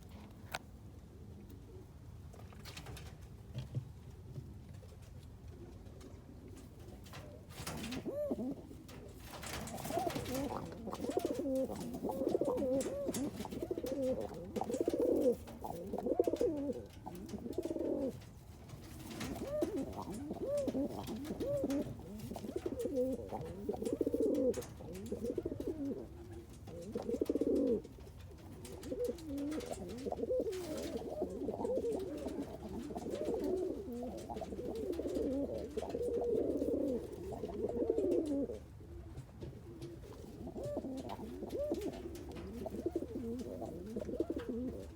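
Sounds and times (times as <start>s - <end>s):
pigeons cooing: 7.1s - 44.9s.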